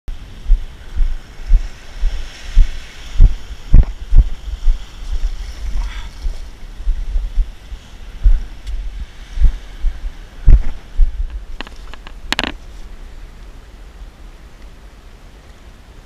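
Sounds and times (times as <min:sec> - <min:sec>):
wind buffeting microphone: 0:00.1 - 0:13.2
small waves washing ashore: 0:00.1 - 0:16.0.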